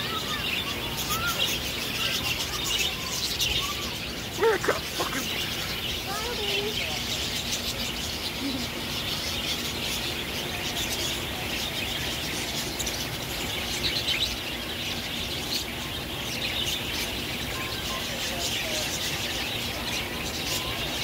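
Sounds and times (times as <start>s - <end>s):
budgerigars chattering: 0.0s - 21.0s.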